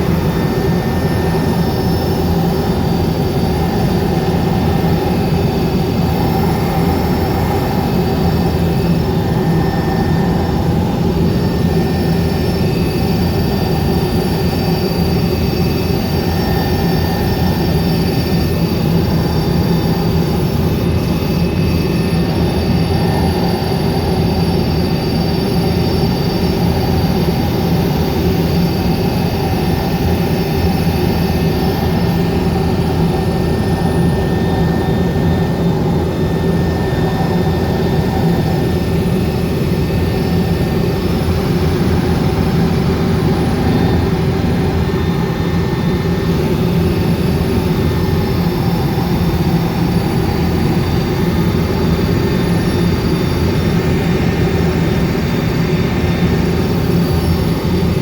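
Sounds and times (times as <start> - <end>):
helicopter engine and rotor drone: 0.0 - 58.0
thin steady whine: 0.0 - 58.0.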